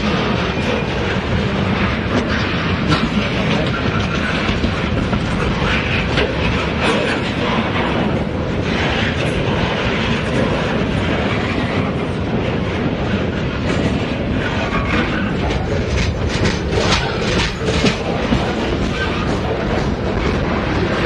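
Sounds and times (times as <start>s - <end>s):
clickety-clack over rail joints: 0.0s - 21.0s
train wheels rumbling on rail: 0.0s - 21.0s.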